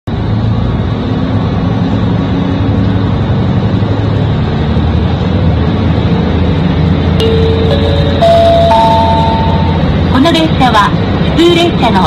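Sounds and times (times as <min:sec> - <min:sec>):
diesel engine drone: 0:00.1 - 0:12.0
train wheels rumbling on track: 0:00.1 - 0:12.0.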